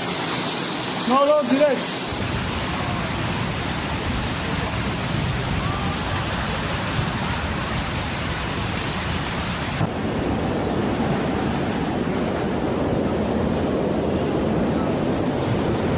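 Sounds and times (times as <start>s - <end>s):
heavy water rushing: 0.0s - 15.9s
storm wind: 2.1s - 15.9s.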